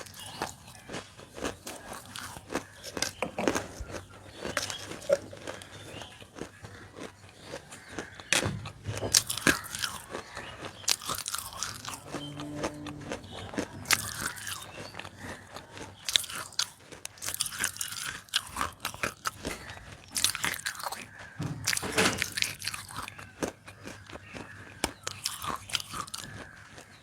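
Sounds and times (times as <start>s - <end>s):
biting and crunching clay: 0.0s - 27.0s
chewing and grinding: 0.0s - 27.0s.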